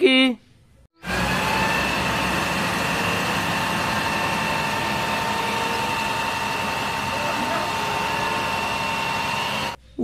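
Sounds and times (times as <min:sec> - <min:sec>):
truck engine running: 0:01.0 - 0:09.8.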